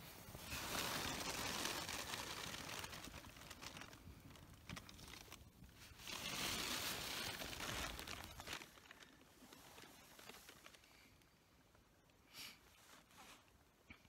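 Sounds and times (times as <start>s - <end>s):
nylon clothing rustling: 0.0s - 11.3s.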